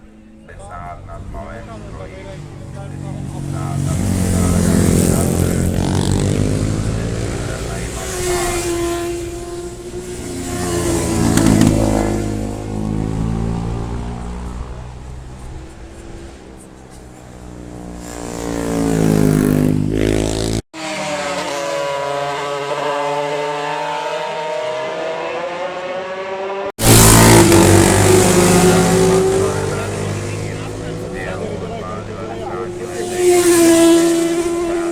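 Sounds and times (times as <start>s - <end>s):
wavering engine note: 0.0s - 16.7s, 17.4s - 34.9s
racing motorcycles passing: 0.0s - 34.9s.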